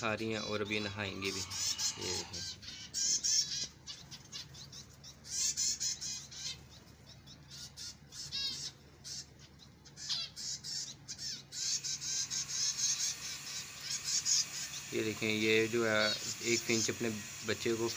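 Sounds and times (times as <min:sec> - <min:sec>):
finches chirping: 0:00.0 - 0:17.9.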